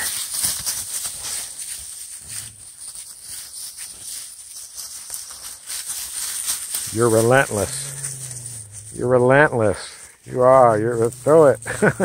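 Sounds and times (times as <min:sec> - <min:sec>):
dry leaves crunching underfoot: 0:00.0 - 0:12.0.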